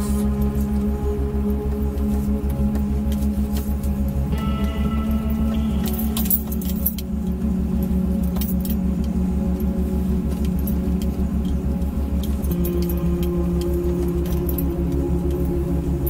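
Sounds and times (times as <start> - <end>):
off-road vehicle engine: 0.0 - 16.0.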